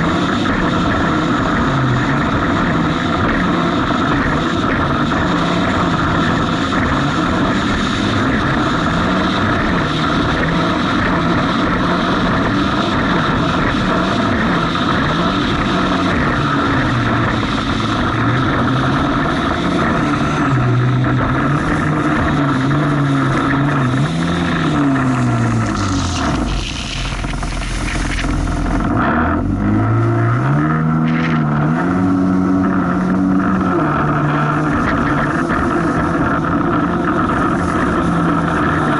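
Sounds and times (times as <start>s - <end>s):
jet ski engine revving: 0.0s - 38.9s.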